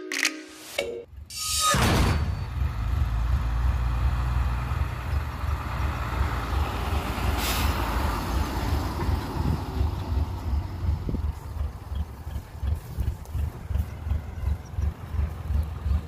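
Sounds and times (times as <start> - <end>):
diesel truck engine rumbling: 1.1 - 16.0.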